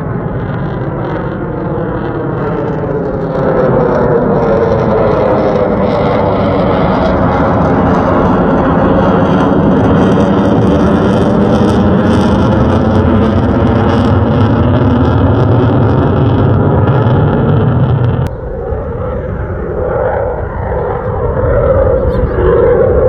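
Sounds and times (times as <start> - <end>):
fighter jet engine rumble: 0.0 - 23.0
jet engine crackle: 0.0 - 23.0.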